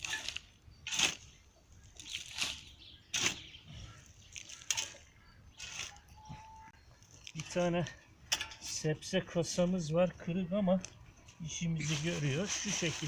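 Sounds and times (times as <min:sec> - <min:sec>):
soil scraping and rustling: 0:00.0 - 0:13.0.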